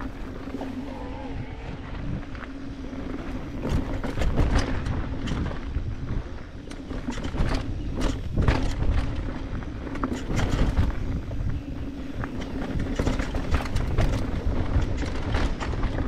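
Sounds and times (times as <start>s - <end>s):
bike tyres over dirt and leaves: 0.0s - 16.0s
bike rattling and knocking: 3.0s - 16.0s.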